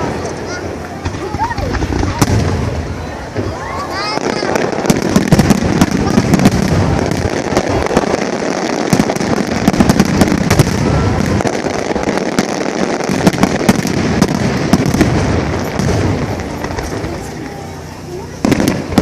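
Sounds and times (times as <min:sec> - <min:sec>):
low rumble of booms: 0:00.0 - 0:17.6
fireworks cracking and banging: 0:00.0 - 0:19.0.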